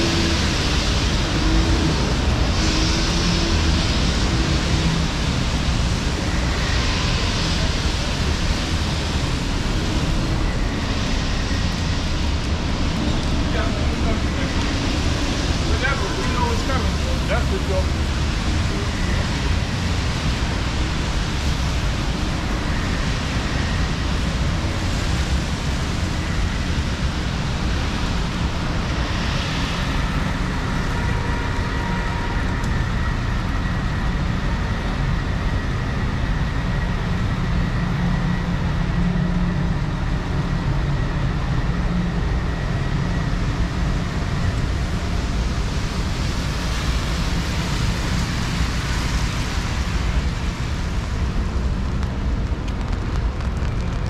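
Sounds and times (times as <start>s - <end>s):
vehicles passing on wet road: 0.0s - 41.4s, 42.2s - 54.0s.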